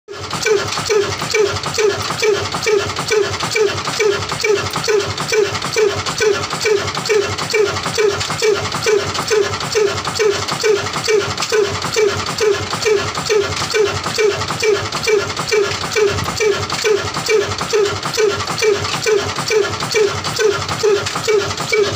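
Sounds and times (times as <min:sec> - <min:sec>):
stationary diesel engine chugging: 0:00.1 - 0:21.9.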